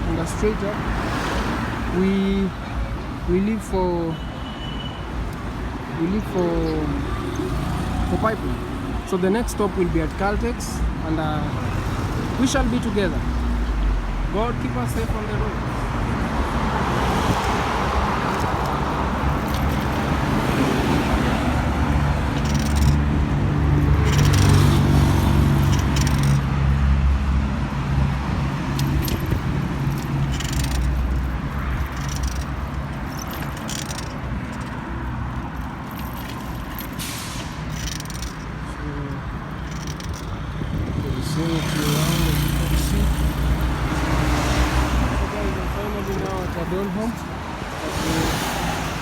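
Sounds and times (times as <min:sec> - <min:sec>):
rush of passing vehicles: 0:00.0 - 0:49.0.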